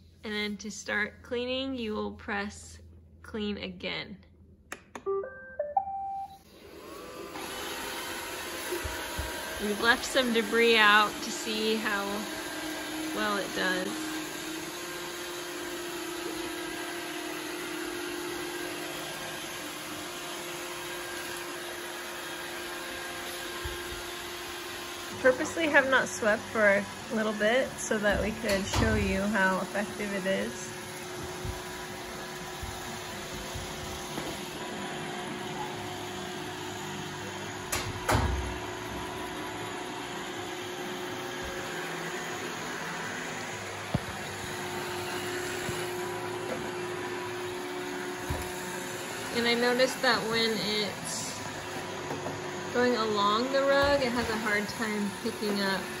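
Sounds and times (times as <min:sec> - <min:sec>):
robot vacuum whirring: 0:06.4 - 0:37.7, 0:38.6 - 0:56.0.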